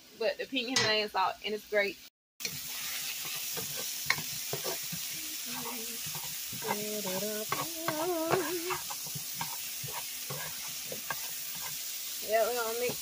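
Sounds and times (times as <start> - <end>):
vegetables sizzling in oil: 0.0 - 13.0
utensil scraping against pan: 2.5 - 13.0.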